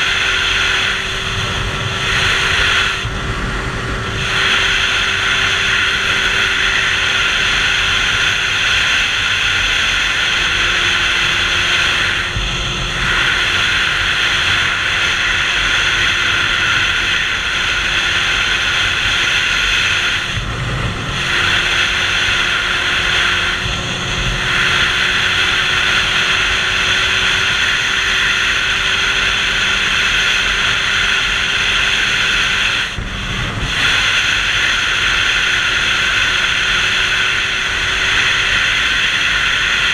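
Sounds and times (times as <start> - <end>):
motorcycle engine droning: 0.0 - 39.9
wind rushing over camera: 0.0 - 39.9.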